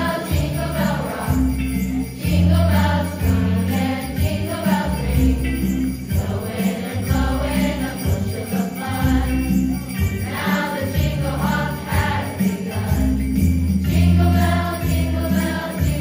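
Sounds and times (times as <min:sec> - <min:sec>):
youth choir singing: 0:00.0 - 0:13.2, 0:13.9 - 0:16.0
jingling sleigh bells: 0:00.0 - 0:16.0.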